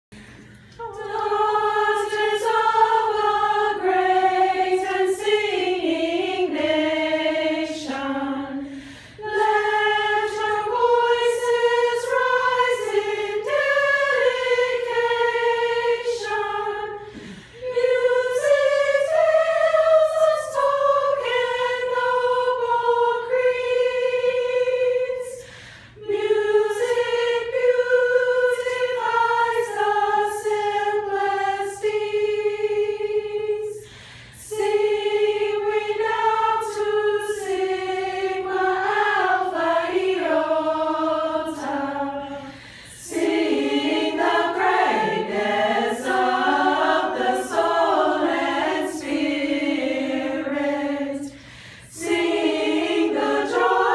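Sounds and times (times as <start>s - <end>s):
women singing a cappella: 0.2s - 53.9s.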